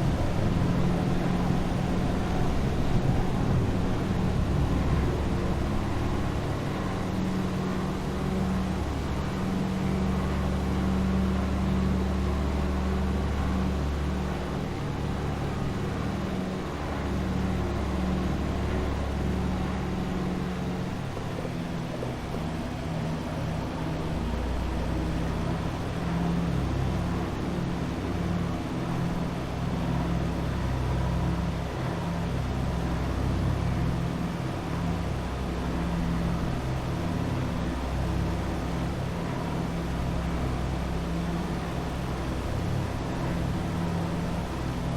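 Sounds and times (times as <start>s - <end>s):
aircraft piston engines droning: 0.0s - 44.9s.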